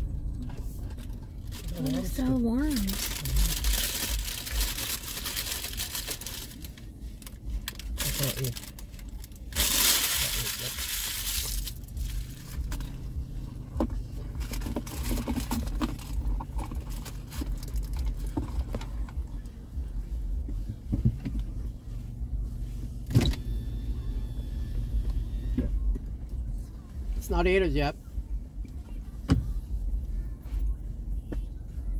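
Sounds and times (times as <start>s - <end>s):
car idling hum: 0.0s - 31.9s.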